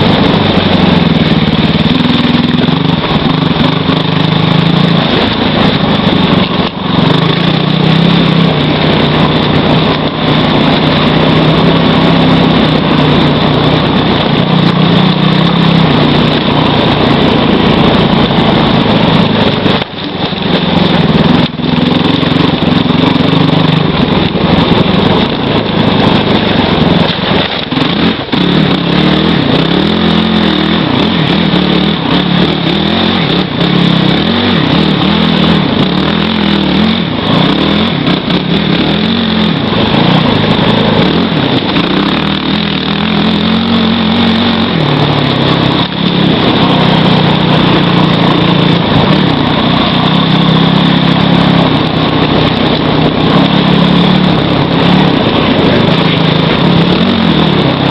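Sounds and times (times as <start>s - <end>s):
quad bike engine revving: 0.0s - 57.9s.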